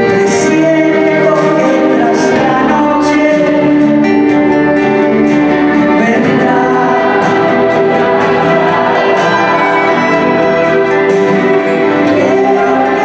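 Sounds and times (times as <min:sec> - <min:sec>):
acoustic guitar: 0:00.0 - 0:13.0
violin: 0:00.0 - 0:13.0.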